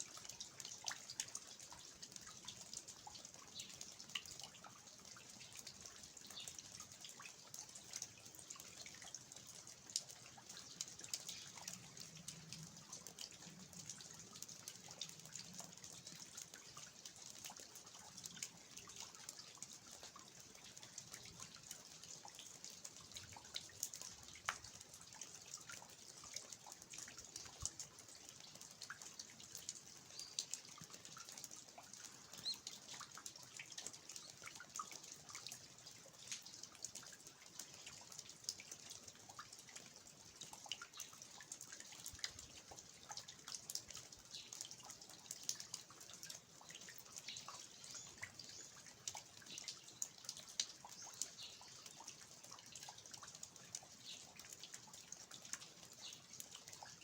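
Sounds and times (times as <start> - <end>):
light rain hiss: 0.0 - 57.0
water dripping from eaves: 0.0 - 57.0.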